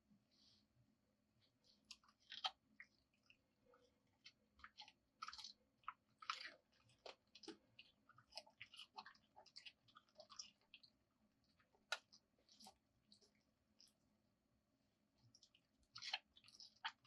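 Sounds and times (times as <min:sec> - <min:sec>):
faint crisp crunching and clicking: 0:01.4 - 0:14.1, 0:15.2 - 0:17.0.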